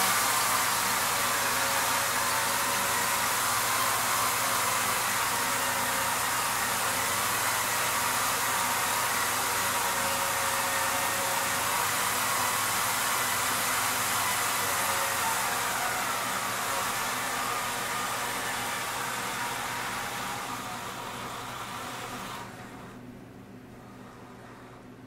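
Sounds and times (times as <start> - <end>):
camera rig motors whirring: 0.0 - 23.1.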